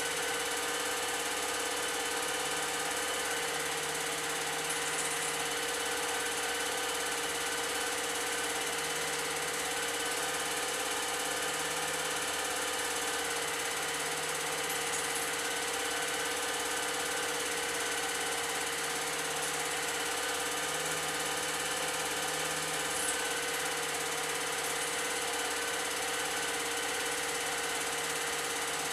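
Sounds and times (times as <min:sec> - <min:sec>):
film projector whirring: 0:00.0 - 0:28.9.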